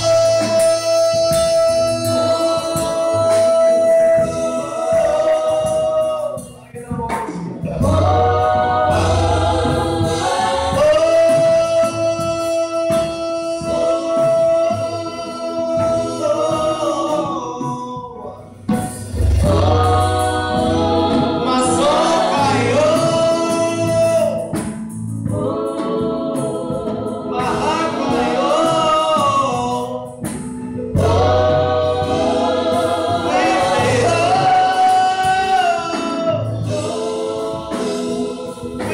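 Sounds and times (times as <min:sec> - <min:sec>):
low bass notes: 0:00.0 - 0:17.5, 0:18.1 - 0:38.8
gospel choir singing: 0:00.0 - 0:38.9.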